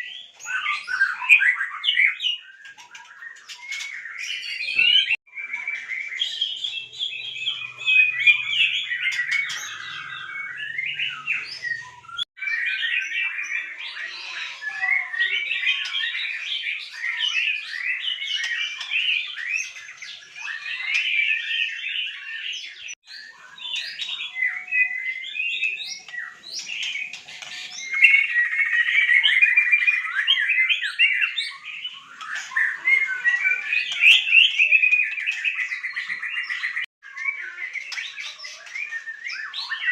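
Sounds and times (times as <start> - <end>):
birds singing chirping and warbling: 0.0 - 39.9.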